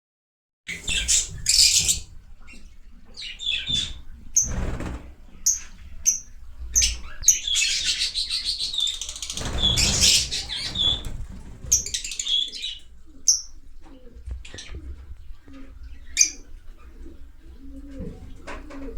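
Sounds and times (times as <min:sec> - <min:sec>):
lovebirds chirping: 0:00.7 - 0:18.9.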